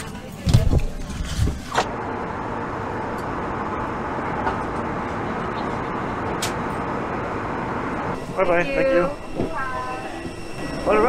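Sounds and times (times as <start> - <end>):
airliner cabin engine drone: 1.4 - 11.0.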